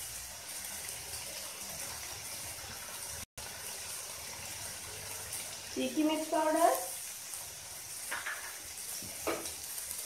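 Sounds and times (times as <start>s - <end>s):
masala sizzling in oil: 0.0s - 10.0s.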